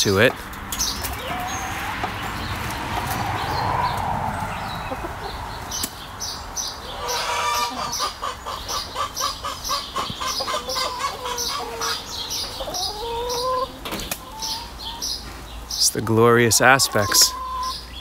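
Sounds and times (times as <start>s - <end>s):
hens clucking: 0.1s - 6.2s, 6.8s - 17.8s.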